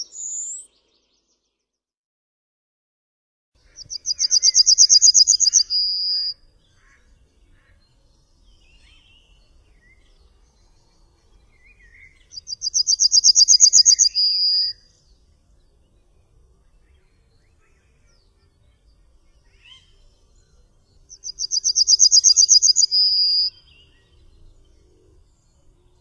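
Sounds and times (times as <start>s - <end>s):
yellowhammer singing: 0.0s - 1.4s, 3.7s - 26.0s.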